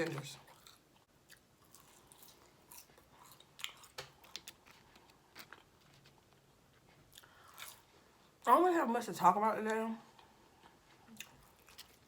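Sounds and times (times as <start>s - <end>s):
person chewing food: 0.4s - 8.4s, 10.1s - 12.0s.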